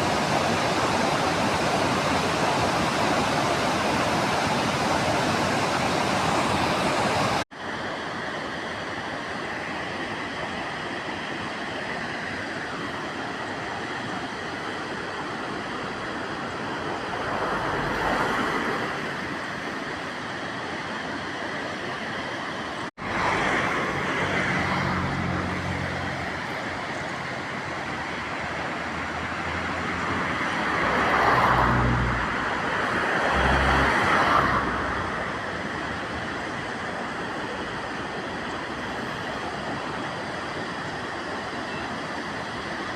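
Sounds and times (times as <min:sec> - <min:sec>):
river rushing: 0:00.0 - 0:42.9.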